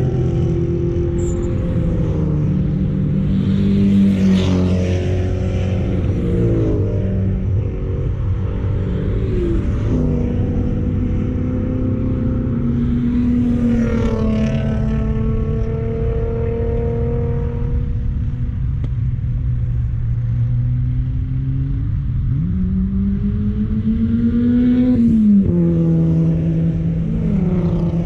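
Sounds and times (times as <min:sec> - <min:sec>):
car engine running hard: 0:00.0 - 0:28.0.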